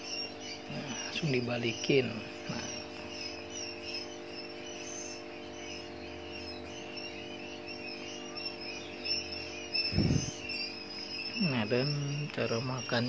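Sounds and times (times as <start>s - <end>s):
crickets chirping: 0.0s - 13.0s
faint low hum: 0.0s - 13.0s.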